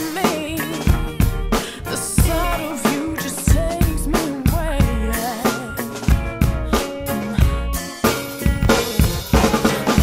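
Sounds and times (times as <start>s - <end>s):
drum kit playing: 0.0s - 10.0s
soul-funk song: 0.0s - 10.0s.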